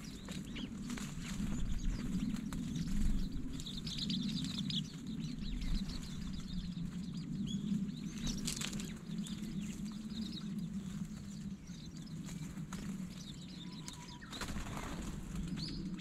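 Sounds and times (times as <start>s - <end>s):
birds twittering: 0.0s - 16.0s.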